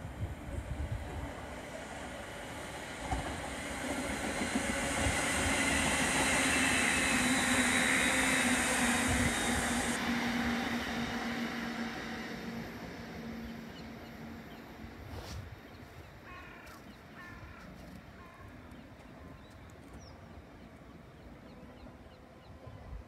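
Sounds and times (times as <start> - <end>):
train wheel and rail noise: 0.0 - 23.0.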